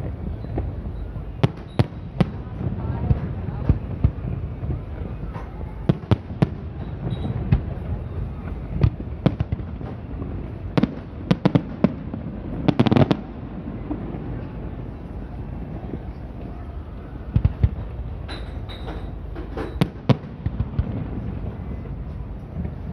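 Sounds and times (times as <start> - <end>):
fireworks bangs: 0.0 - 22.9.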